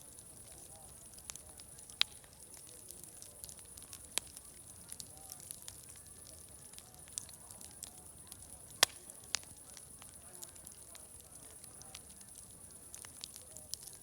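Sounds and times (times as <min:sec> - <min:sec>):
faint distant crowd chatter: 0:00.0 - 0:14.0
sharp pops of fire: 0:00.0 - 0:14.0
wood fire crackling: 0:00.0 - 0:14.0.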